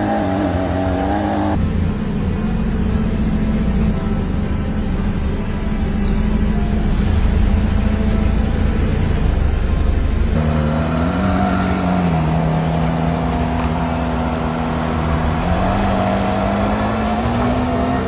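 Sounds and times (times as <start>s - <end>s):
car engine at low revs: 0.0s - 18.0s
deep heavy rumble: 0.0s - 18.0s.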